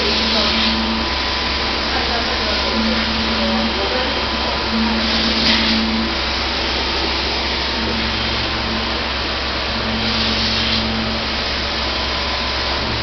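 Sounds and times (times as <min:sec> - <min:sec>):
low hum: 0:00.0 - 0:13.0
machine motors whirring: 0:00.0 - 0:13.0.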